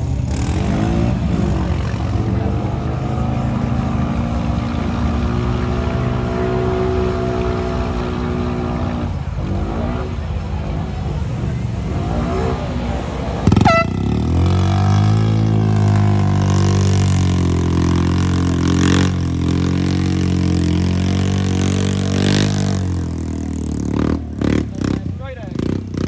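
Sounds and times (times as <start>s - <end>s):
atv engine at high revs: 0.0s - 26.0s.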